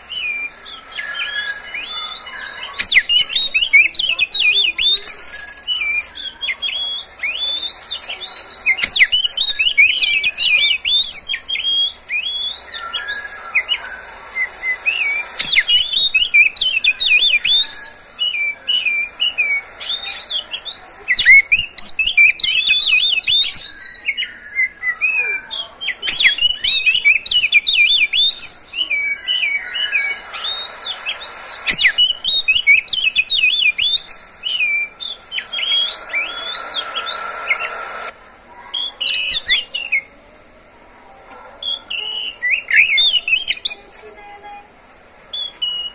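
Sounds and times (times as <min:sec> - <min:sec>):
bird singing rapid varied song: 0:00.0 - 0:37.9.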